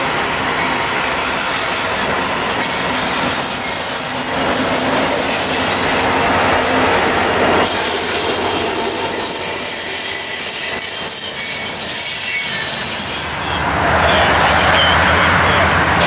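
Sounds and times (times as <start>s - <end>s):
steel wheels rumbling on rail: 0.0s - 16.0s
high-pitched wheel squeal: 0.6s - 5.6s, 6.6s - 15.6s.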